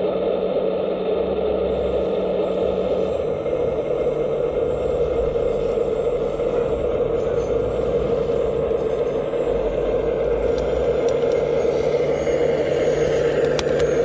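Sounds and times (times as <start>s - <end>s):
faint high whine: 0.8s - 14.0s
hydraulic pump humming: 1.7s - 14.0s.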